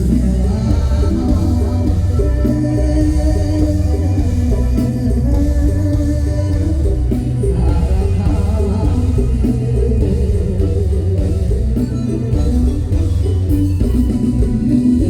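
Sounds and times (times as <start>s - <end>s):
band music with guitar: 0.0s - 15.0s
heavy steady bass line: 0.0s - 15.0s.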